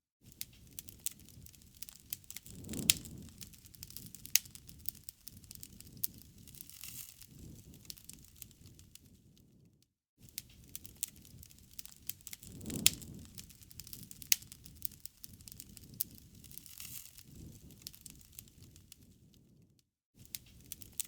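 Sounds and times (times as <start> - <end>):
wood fire crackling and popping: 0.3 - 9.7, 10.3 - 21.0
low rumble of flame: 0.4 - 21.0.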